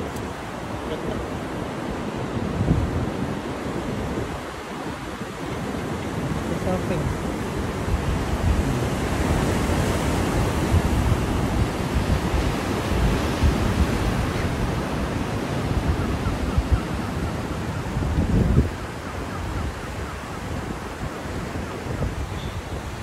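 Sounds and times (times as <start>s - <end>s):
ocean surf breaking: 0.0s - 23.0s
wind on microphone: 0.0s - 23.0s.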